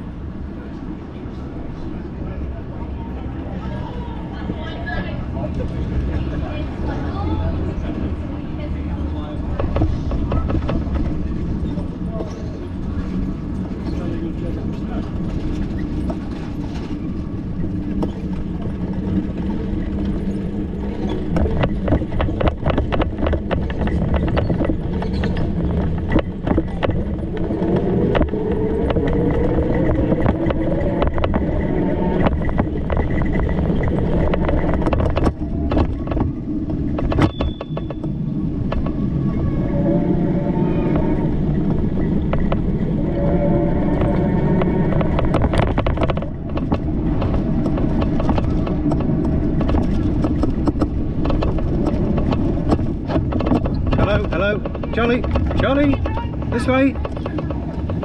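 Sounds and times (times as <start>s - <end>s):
low traffic rumble: 0.0s - 58.0s
vehicle engines passing: 0.0s - 58.0s.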